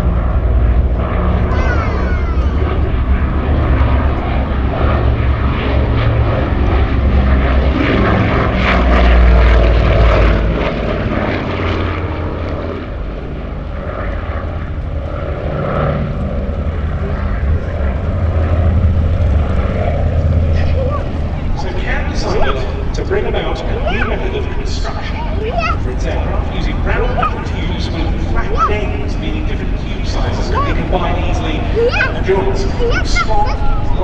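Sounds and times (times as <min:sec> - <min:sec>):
aircraft radial engines in flight: 0:00.0 - 0:34.0.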